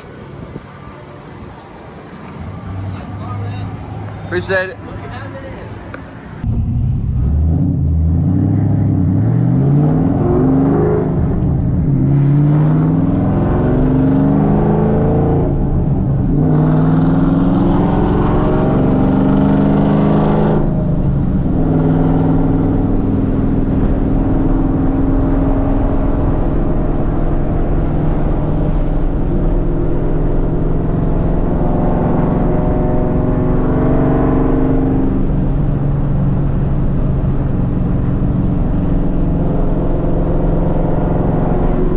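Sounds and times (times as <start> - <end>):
vee eight engine accelerating: 0.0 - 41.9.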